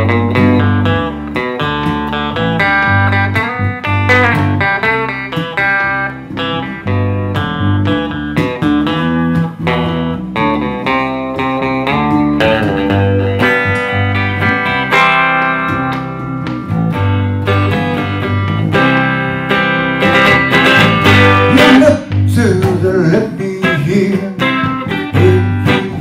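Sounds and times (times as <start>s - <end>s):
electric guitar playing: 0.0s - 26.0s.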